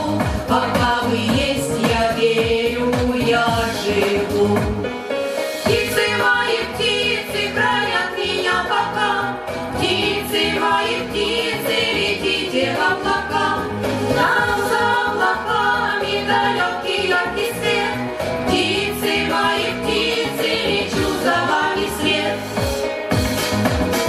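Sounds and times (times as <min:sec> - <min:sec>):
choir-like vocals: 0:00.0 - 0:04.9, 0:05.5 - 0:23.0
backing music: 0:00.0 - 0:24.0.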